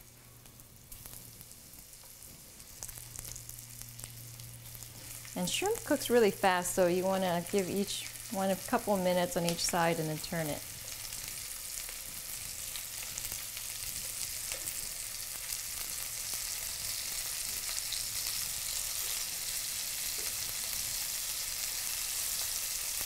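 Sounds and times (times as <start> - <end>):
shrimp sizzling in a pan: 0.0 - 23.0.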